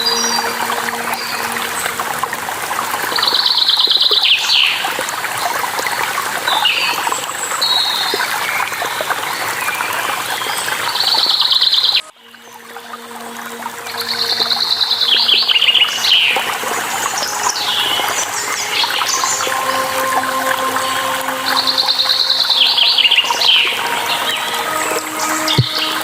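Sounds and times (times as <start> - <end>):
flowing water: 0.0 - 26.0.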